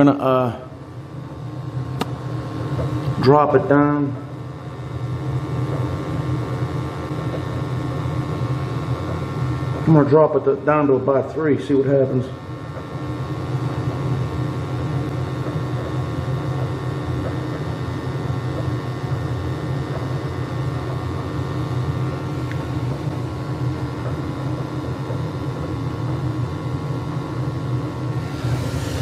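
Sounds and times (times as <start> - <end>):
gas burner rumbling: 0.0 - 29.0.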